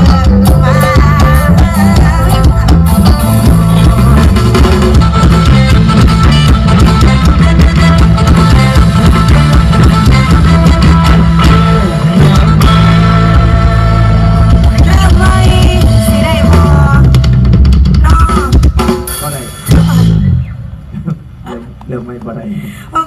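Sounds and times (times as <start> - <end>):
live rock band playing: 0.0 - 21.4.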